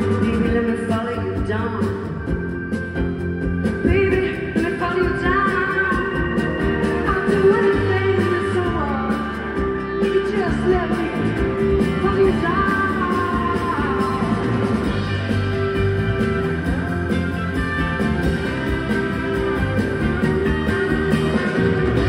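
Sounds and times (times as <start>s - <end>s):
bass: 0.0s - 22.0s
drums: 0.0s - 22.0s
electric guitar: 0.0s - 22.0s
keyboards: 0.0s - 22.0s.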